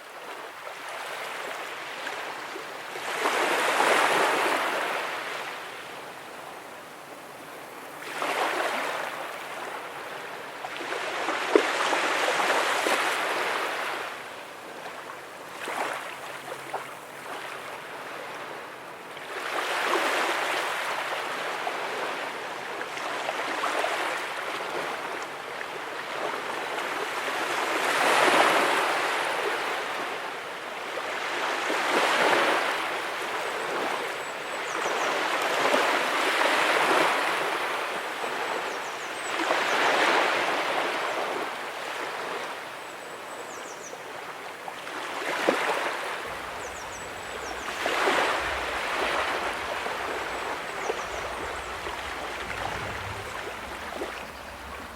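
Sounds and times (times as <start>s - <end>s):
ocean waves breaking on beach: 0.0s - 54.9s.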